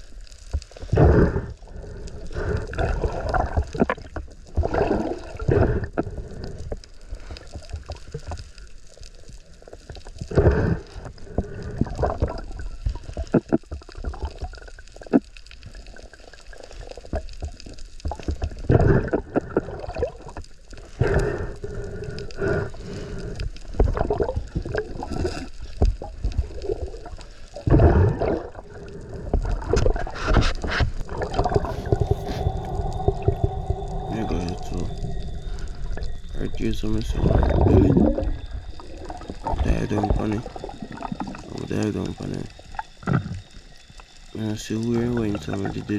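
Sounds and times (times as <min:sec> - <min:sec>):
muffled water sloshing and gurgling: 0:00.0 - 0:45.9.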